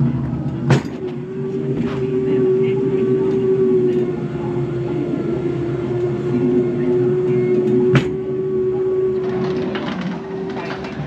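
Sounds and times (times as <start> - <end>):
ride car hum: 0.0 - 11.0
wheels rumbling on rails: 0.0 - 11.0.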